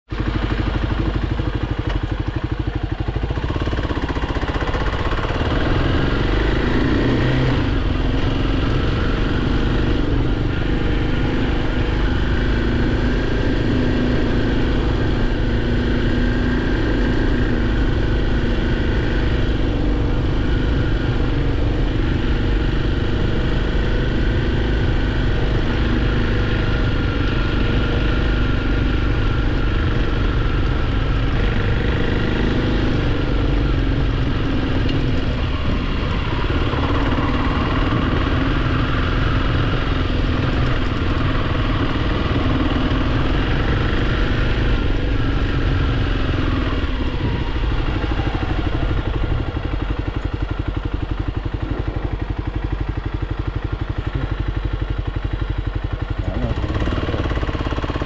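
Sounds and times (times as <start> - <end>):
dirt bike engine running: 0.1 - 58.0.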